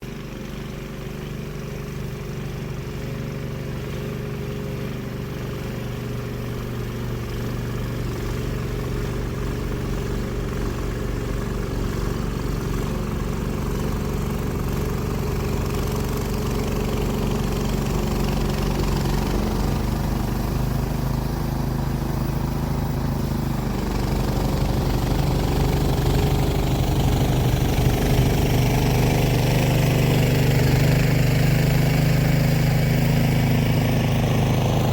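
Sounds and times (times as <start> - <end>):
snowblower engine running: 0.0 - 34.9.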